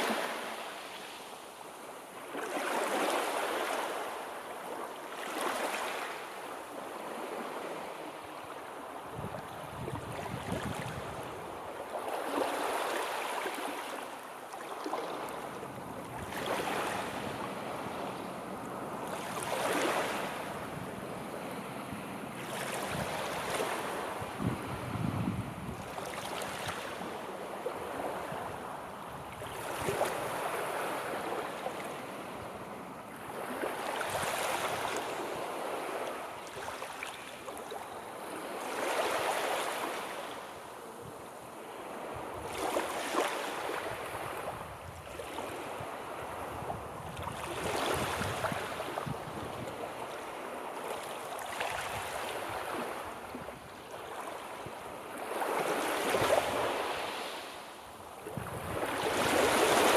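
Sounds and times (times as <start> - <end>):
sea waves washing on shore: 0.0 - 59.9.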